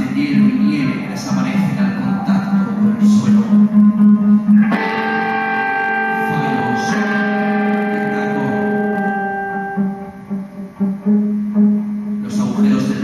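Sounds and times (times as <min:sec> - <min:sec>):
guitar chord ringing: 0:02.6 - 0:13.0.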